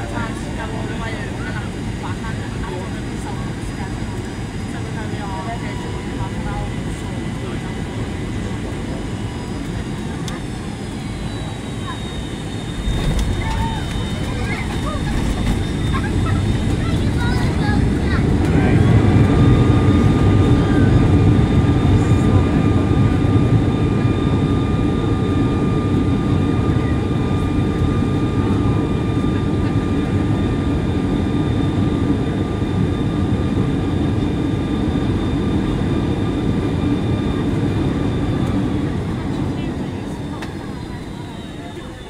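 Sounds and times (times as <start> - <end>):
heavy runway rumble: 0.0 - 42.0
jet engine whine: 0.0 - 42.0.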